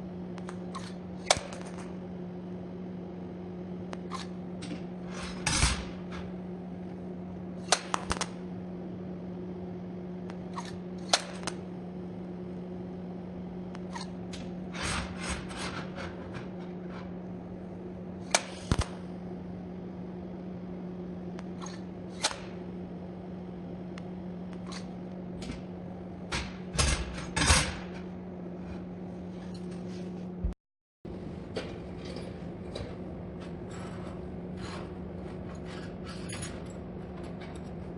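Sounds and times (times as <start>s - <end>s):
low electrical hum: 0.0s - 37.9s.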